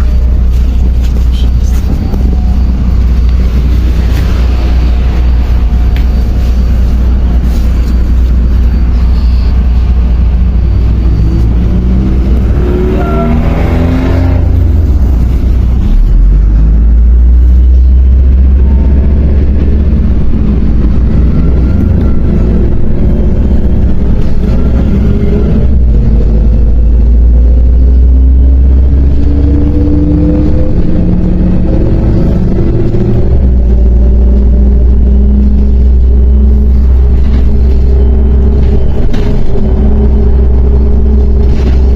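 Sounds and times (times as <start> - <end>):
bus diesel engine rumbling: 0.0 - 41.9.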